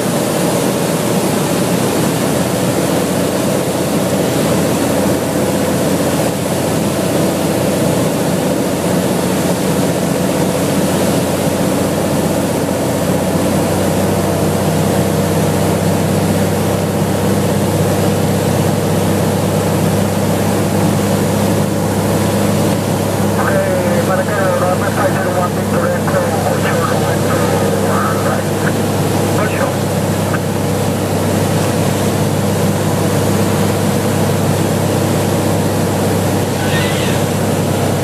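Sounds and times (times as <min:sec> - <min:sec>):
constant rushing noise: 0:00.0 - 0:38.0
propeller plane engine drone: 0:00.0 - 0:38.0.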